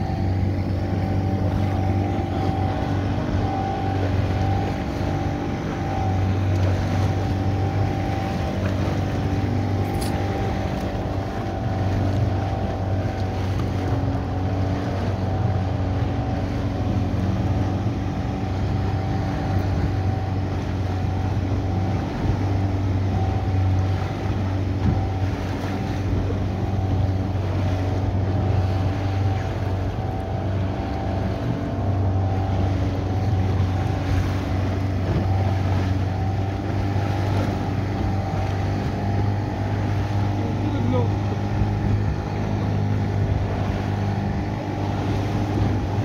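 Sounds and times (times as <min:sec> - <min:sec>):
boat motor droning: 0:00.0 - 0:46.0.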